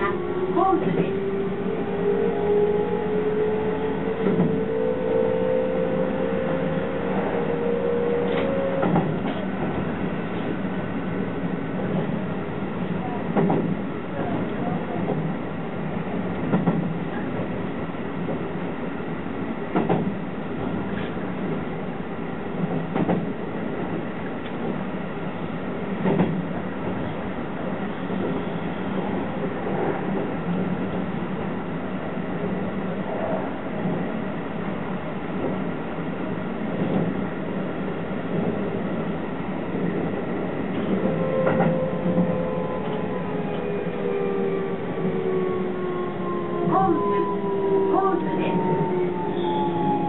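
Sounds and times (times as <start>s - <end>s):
train running rumble: 0.0s - 50.0s.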